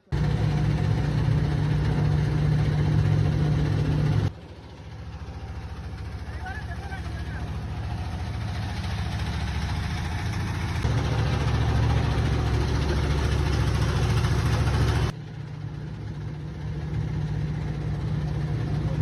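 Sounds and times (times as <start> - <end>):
engine running with low throb: 0.0 - 19.0.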